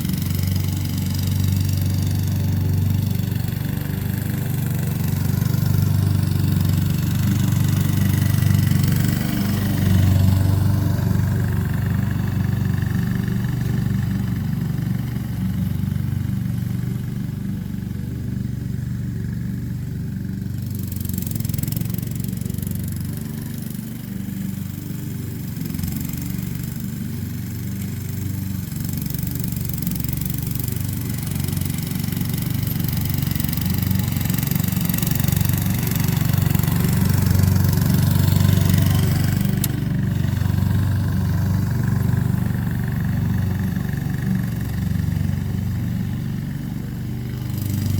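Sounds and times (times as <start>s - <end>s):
lawn mower engine running: 0.0s - 47.9s.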